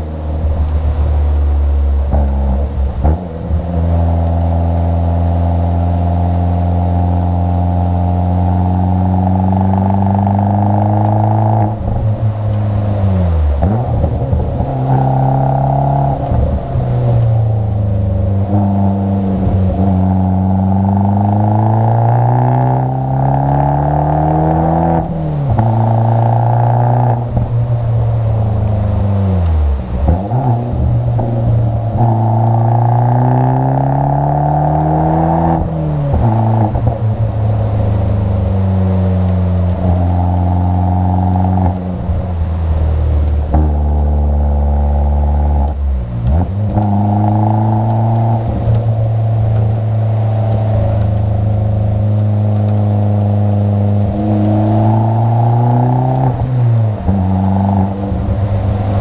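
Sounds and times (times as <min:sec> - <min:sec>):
car engine pulling hard: 0:00.0 - 0:59.0.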